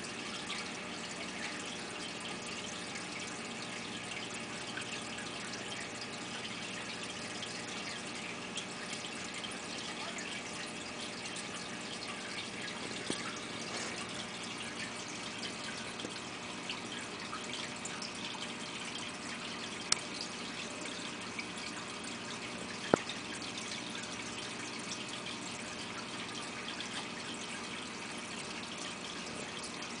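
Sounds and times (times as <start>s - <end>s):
water trickling and dripping: 0.0s - 30.0s.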